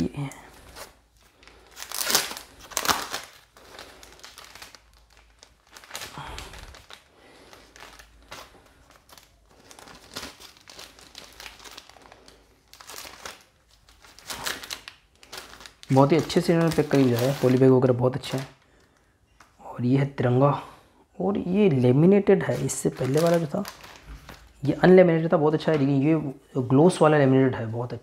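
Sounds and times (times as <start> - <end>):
plastic bag crinkling: 0.0 - 19.6, 21.4 - 26.1.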